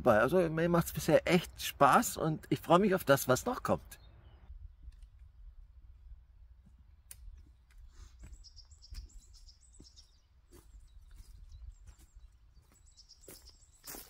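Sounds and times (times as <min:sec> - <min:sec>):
songbird chirping: 0:00.0 - 0:05.6, 0:06.6 - 0:14.0.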